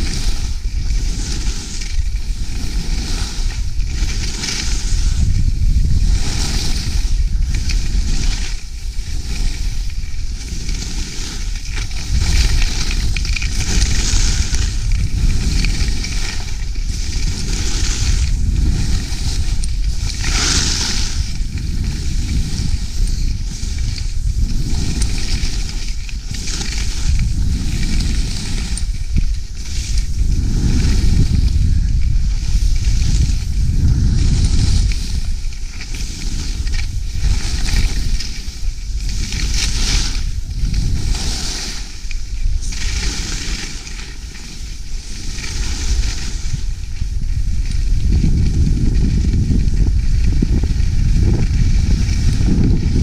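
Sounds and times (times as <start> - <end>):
skis hissing and scraping on snow: 0.0 - 53.0
steady low rumble: 0.0 - 53.0.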